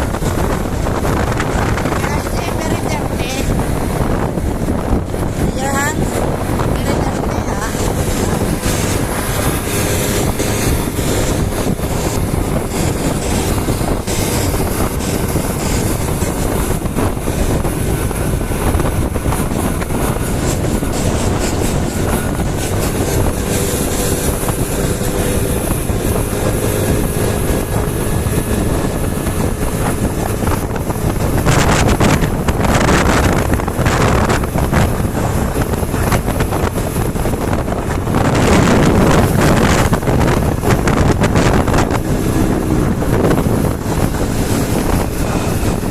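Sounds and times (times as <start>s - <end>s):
faint engine: 0.0s - 45.9s
wind rushing on microphone: 0.0s - 45.9s.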